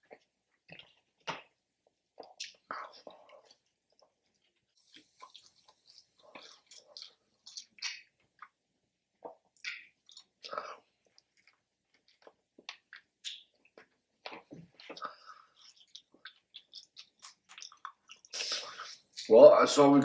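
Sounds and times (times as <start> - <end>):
wet chewing and biting: 0.0 - 8.6, 9.2 - 19.2.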